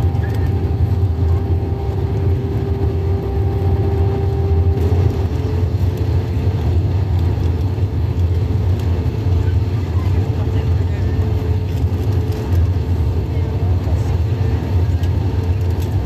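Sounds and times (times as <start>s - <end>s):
airplane cabin engine rumble: 0.0s - 16.0s
steady engine tone: 0.0s - 16.0s.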